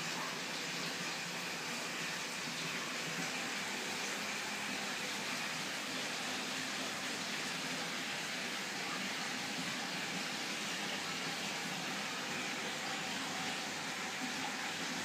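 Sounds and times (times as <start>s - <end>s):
aquarium filter hiss: 0.0s - 15.0s.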